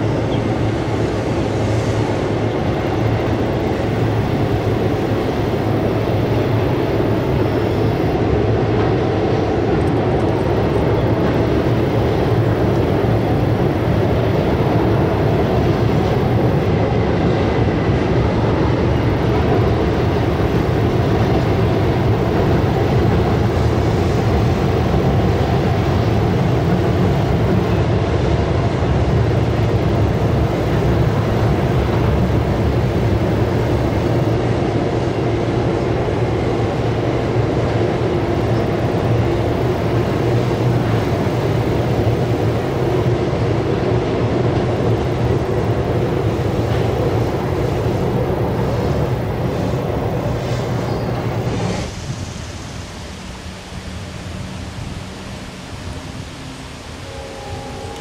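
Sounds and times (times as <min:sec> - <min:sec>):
freight train rumbling over trestle: 0:00.0 - 0:58.0.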